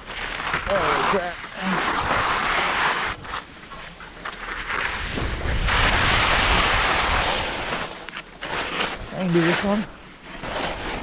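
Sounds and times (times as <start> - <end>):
skis scraping on snow: 0.0 - 11.0.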